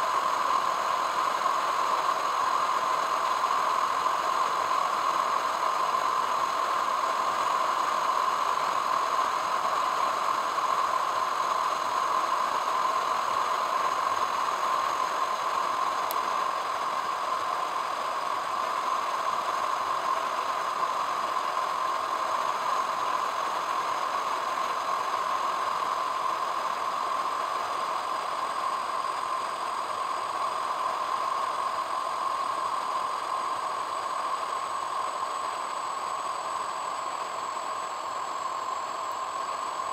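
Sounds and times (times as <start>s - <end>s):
car tyre and engine noise: 0.0s - 39.9s.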